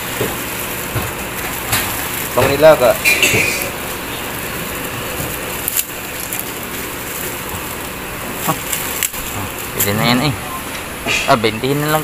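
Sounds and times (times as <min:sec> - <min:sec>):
market crowd hubbub: 0:00.0 - 0:12.0.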